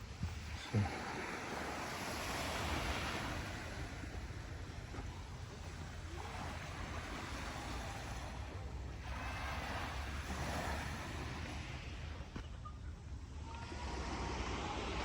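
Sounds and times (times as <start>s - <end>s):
small sea waves washing in: 0.0s - 12.4s, 13.4s - 15.0s
wind rumble on microphone: 0.0s - 15.0s.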